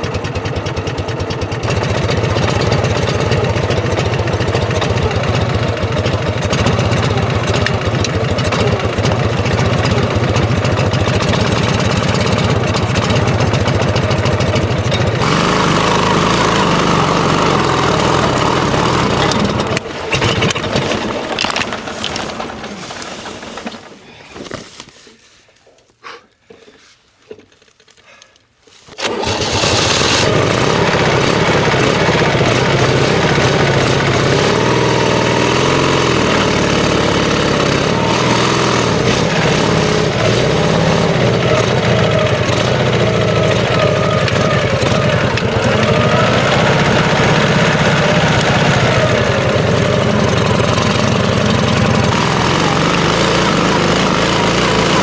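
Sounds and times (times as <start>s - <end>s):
motorcycle engine running: 0.0s - 22.7s, 29.0s - 55.0s.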